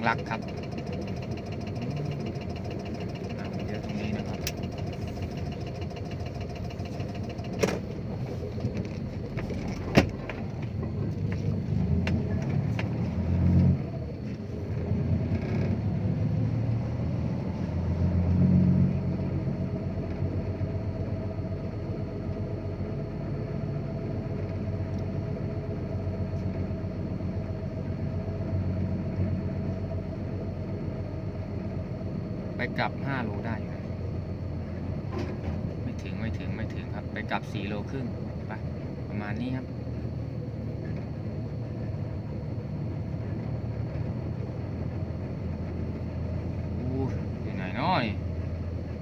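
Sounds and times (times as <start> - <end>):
diesel truck engine droning: 0.0 - 49.0.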